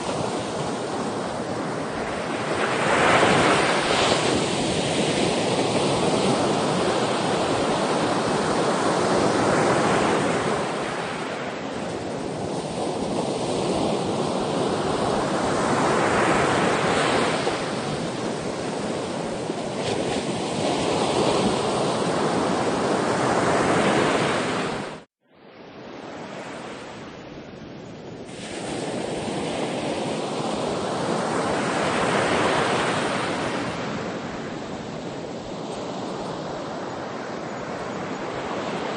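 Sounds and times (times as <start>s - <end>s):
sea waves washing in: 0.0s - 25.1s, 28.2s - 38.9s.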